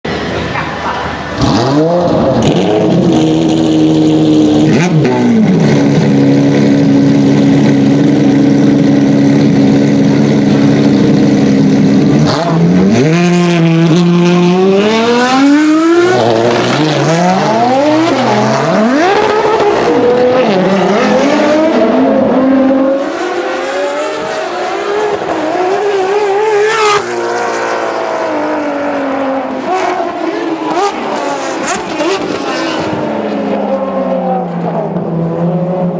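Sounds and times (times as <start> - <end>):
race car engines revving: 0.1 - 35.9.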